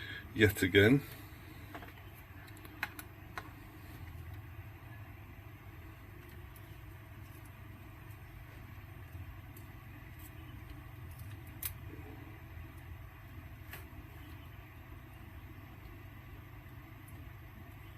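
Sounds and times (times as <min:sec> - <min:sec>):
faint low hum: 0:00.0 - 0:17.9.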